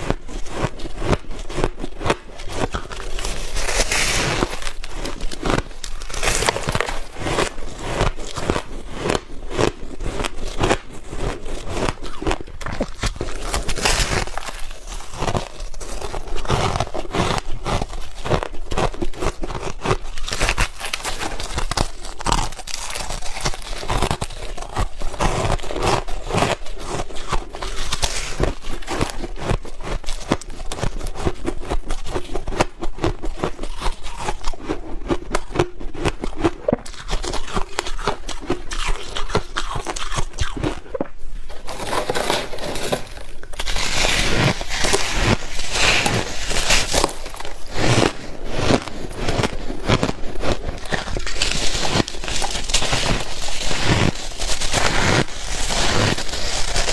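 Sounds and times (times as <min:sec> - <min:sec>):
chewing crunchy ice: 0:00.0 - 0:56.9.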